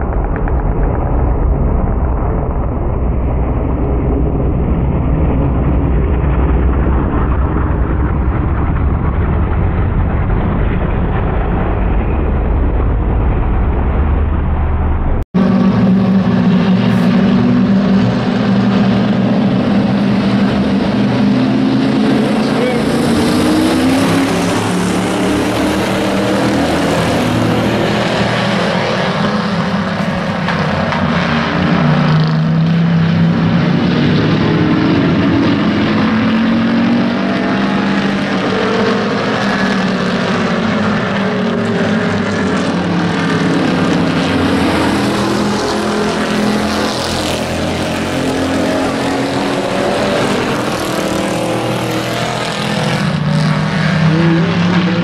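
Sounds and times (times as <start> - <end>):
race truck engines: 0.0 - 55.0.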